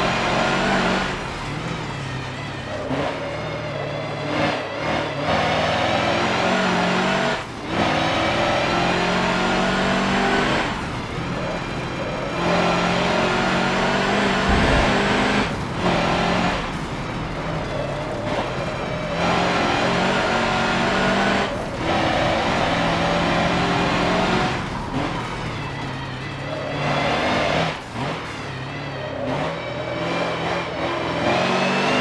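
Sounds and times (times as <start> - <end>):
truck diesel engine pulling hard: 0.0 - 32.0.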